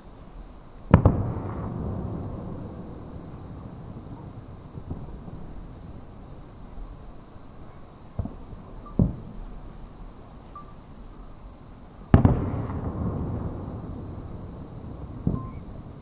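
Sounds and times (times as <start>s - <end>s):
distant fireworks booming: 0.0s - 16.0s.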